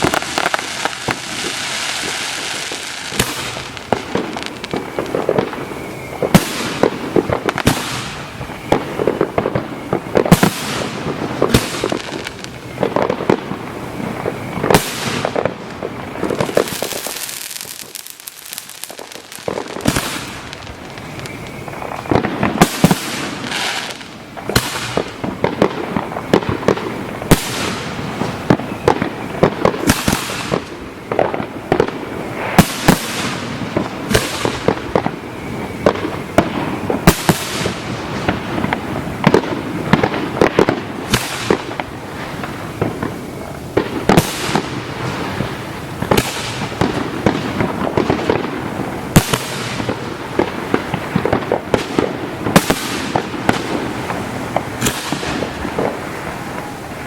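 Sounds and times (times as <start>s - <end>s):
fireworks bangs: 0.0s - 57.0s
fireworks crackling: 0.0s - 57.0s.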